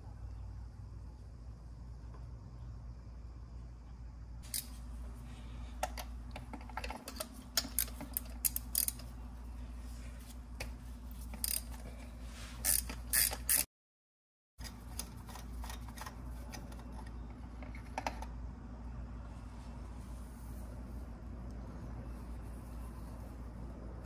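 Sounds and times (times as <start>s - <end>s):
steady low hum: 0.0s - 13.6s, 14.6s - 24.0s.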